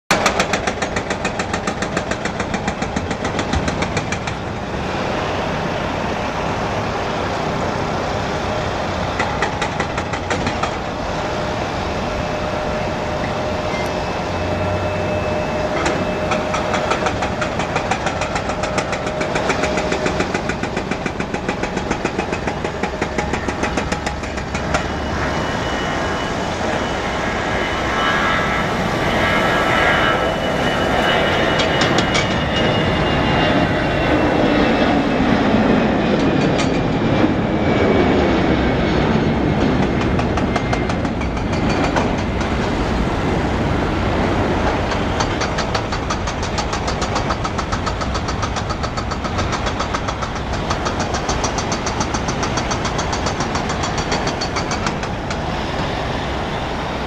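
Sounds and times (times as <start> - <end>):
jet engines roaring at takeoff: 0.1 - 57.0.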